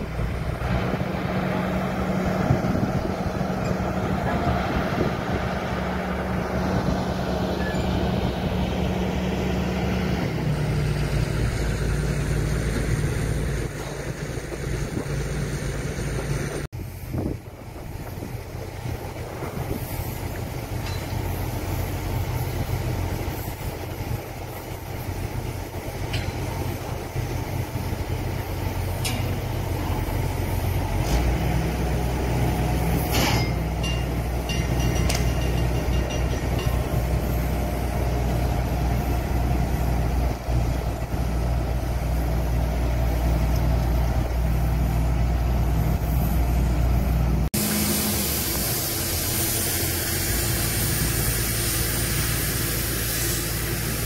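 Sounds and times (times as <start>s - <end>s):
heavy engine rumbling: 0.0s - 54.0s
hissy windy noise: 0.0s - 54.0s.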